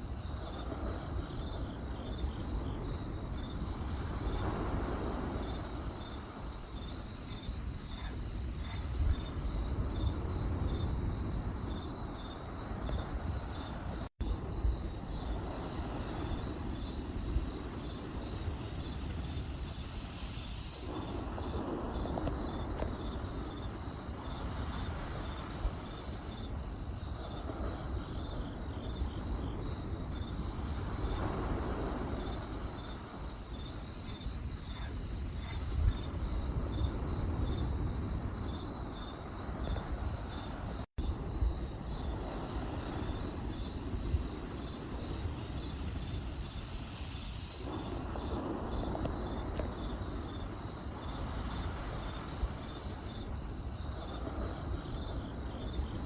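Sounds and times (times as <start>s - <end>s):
campfire rushing: 0.0s - 56.0s
crickets chirping: 0.0s - 56.0s.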